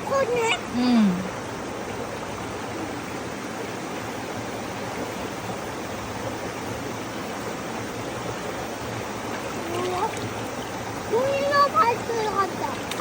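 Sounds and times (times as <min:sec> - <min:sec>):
rushing mountain stream: 0:00.0 - 0:13.0.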